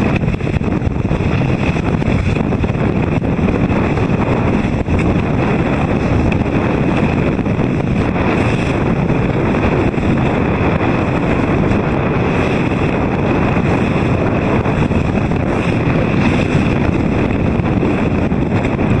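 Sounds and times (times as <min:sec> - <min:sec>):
choppy water splashing: 0:00.0 - 0:19.0
wind buffeting microphone: 0:00.0 - 0:19.0.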